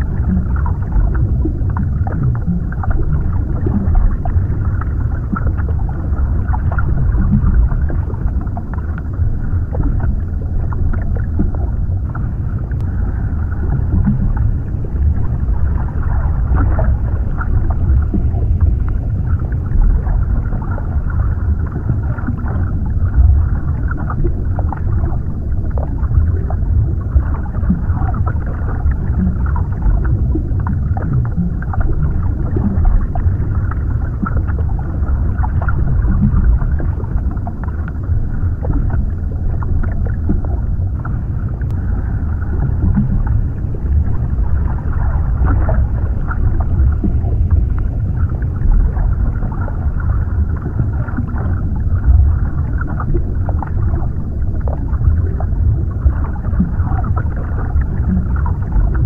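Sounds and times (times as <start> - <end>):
faint bubbling and crackling: 0.0 - 59.0
underwater rumble: 0.0 - 59.0.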